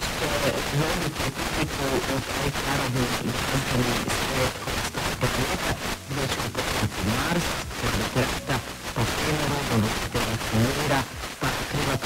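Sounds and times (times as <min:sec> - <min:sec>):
radio static hiss: 0:00.0 - 0:12.0
radio voice talking: 0:00.0 - 0:12.0.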